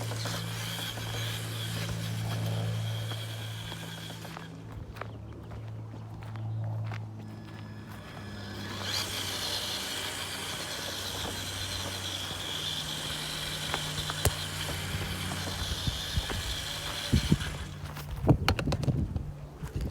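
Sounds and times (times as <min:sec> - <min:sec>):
electric motor whining: 0:00.0 - 0:05.2, 0:07.1 - 0:18.9.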